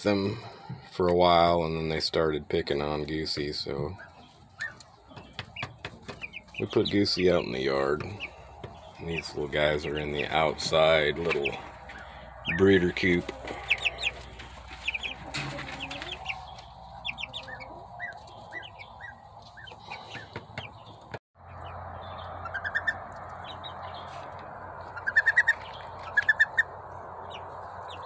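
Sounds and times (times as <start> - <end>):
baby chicks peeping: 0.1 - 28.0.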